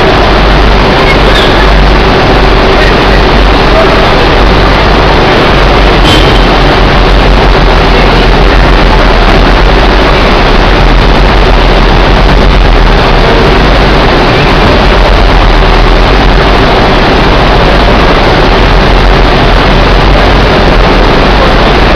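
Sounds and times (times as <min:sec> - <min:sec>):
low machine hum: 0:00.0 - 0:21.9.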